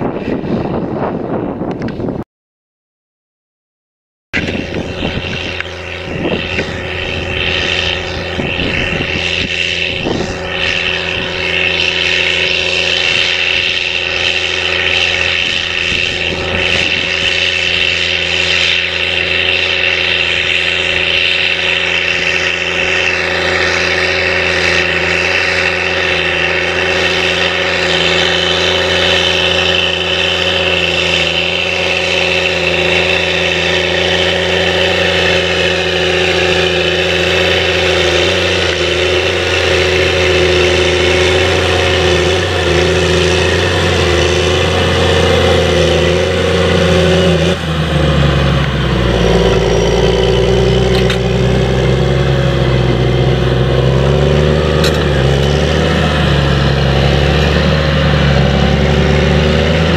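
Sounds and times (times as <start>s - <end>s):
tractor diesel engine under load: 4.4s - 59.9s.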